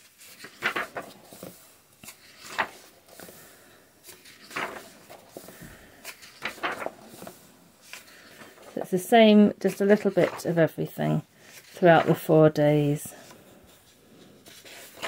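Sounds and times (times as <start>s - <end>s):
paper pages rustling: 0.0s - 15.0s.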